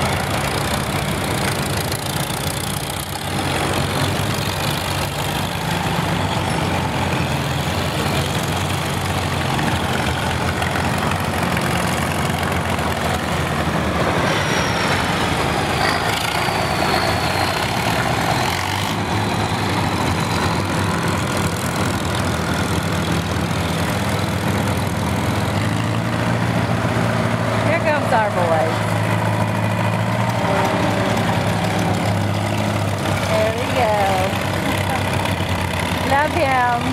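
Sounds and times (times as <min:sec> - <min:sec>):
tractor engines driving past: 0:00.0 - 0:36.9.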